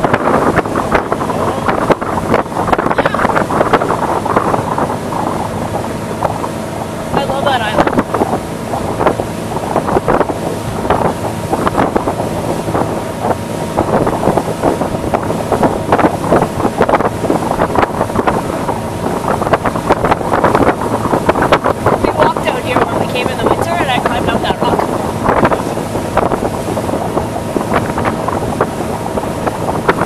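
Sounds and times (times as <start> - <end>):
hull slapping on waves: 0.0 - 30.0
motorboat engine drone: 0.0 - 30.0
wind buffeting microphone: 0.0 - 30.0.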